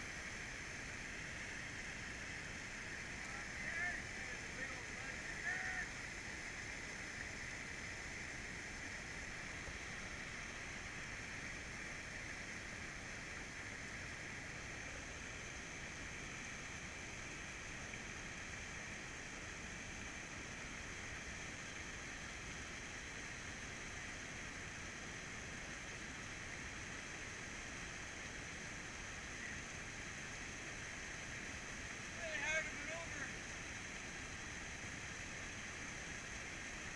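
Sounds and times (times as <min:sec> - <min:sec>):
flowing river water: 0:00.0 - 0:36.9.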